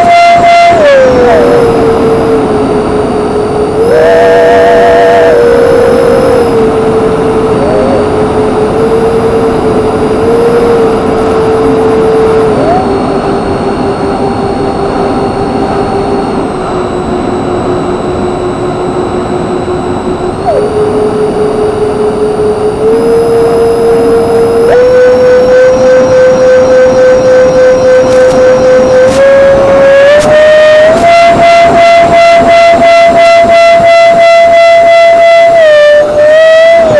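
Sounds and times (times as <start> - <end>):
electric ducted fans whining: 0.0 - 36.9.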